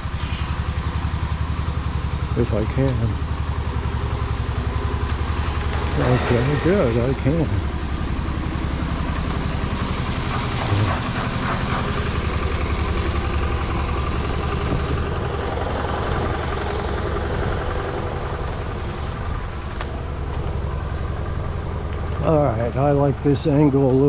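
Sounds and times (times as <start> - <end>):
heavy machinery engine idling: 0.0 - 24.0.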